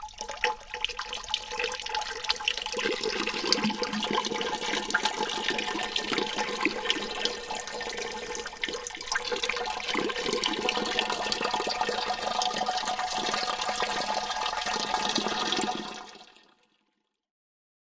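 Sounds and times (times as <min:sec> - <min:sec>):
water dripping with echo: 0:00.0 - 0:15.7.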